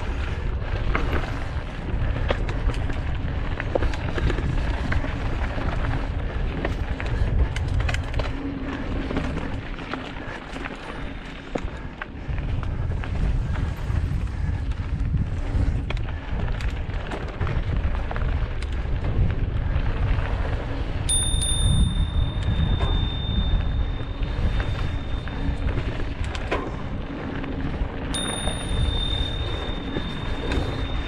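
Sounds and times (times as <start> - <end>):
bike clicks and rattles: 0.0 - 31.0
bike tyres rolling over dirt: 0.0 - 31.0
wind rumble on microphone: 0.0 - 31.0.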